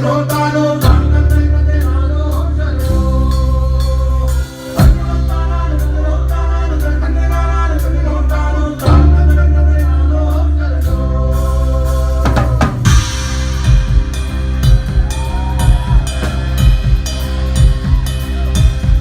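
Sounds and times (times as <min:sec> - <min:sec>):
person singing: 0:00.0 - 0:19.0
rock band playing: 0:00.0 - 0:19.0.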